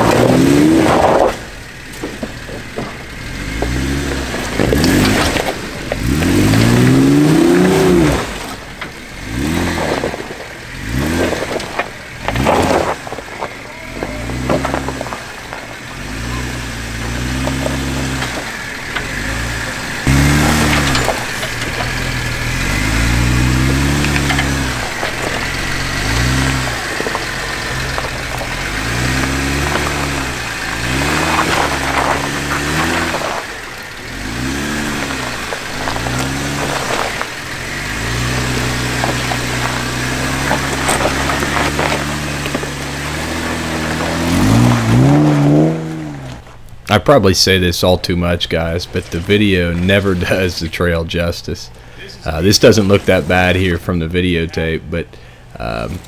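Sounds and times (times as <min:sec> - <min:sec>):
engine revving: 0:00.0 - 0:47.4, 0:48.5 - 0:56.0
tyres crunching over rock: 0:00.0 - 0:56.0.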